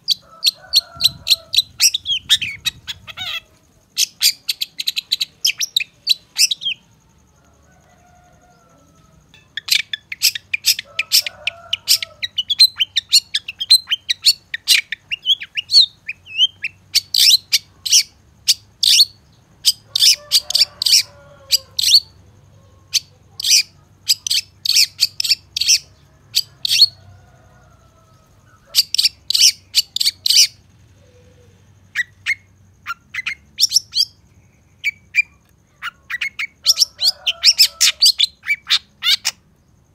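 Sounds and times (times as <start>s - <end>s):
bird chattering song: 0.0s - 7.0s, 9.2s - 27.0s, 28.5s - 39.9s
faint lower bird calls: 0.0s - 39.9s.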